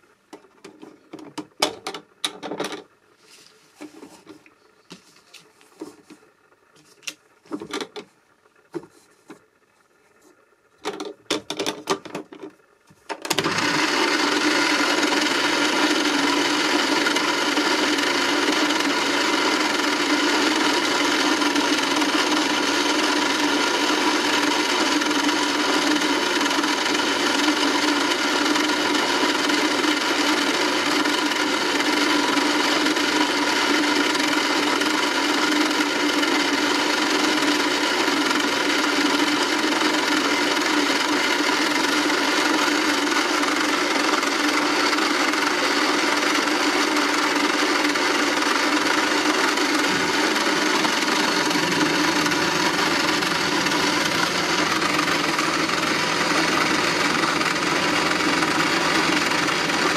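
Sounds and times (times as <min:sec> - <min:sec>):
toy washing machine motor humming: 0:00.0 - 0:59.9.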